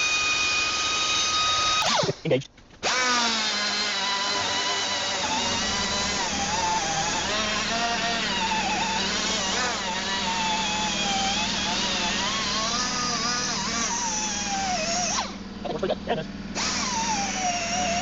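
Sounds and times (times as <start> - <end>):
power drill running: 0.0 - 2.2, 2.8 - 15.5, 16.5 - 18.0.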